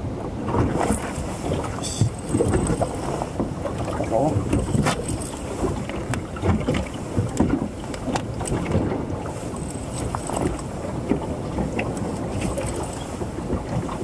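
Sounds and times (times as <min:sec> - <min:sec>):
water lapping against boat hull: 0:00.0 - 0:14.0
wind on microphone: 0:00.0 - 0:14.0.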